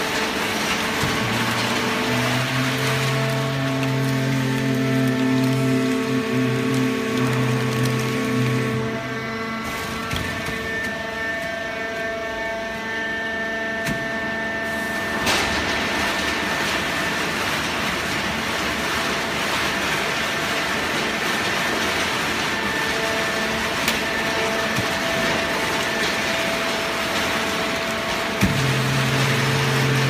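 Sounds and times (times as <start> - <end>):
hydraulic pump whine: 0.0 - 30.0.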